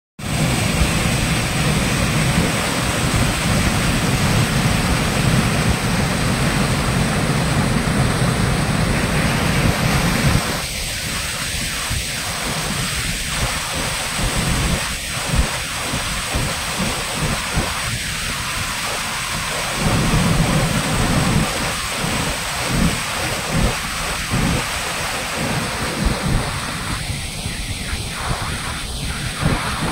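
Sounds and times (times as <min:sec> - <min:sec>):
floodwater pouring into a well: 0:00.2 - 0:29.9.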